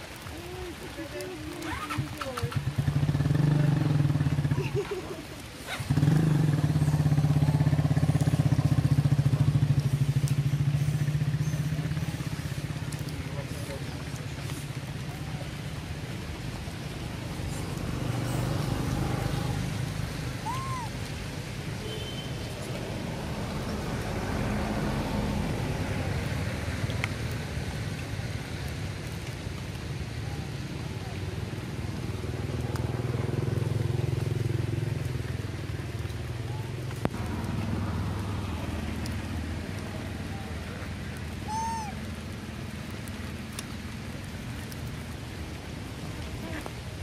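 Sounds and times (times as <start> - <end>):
low outdoor rumbling: 0.0 - 47.0.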